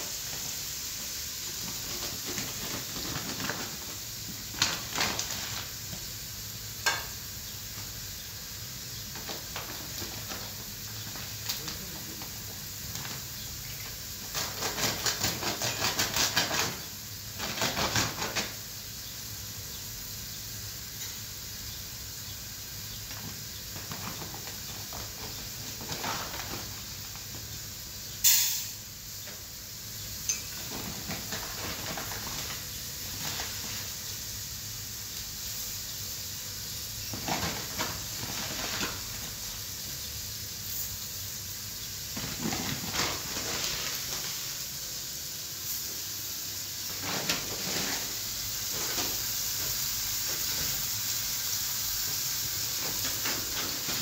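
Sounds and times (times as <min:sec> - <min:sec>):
rice rustling in sack: 0:00.0 - 0:19.0, 0:22.5 - 0:28.0, 0:30.5 - 0:35.9, 0:36.8 - 0:40.0, 0:40.6 - 0:54.0
steady hiss: 0:00.0 - 0:54.0.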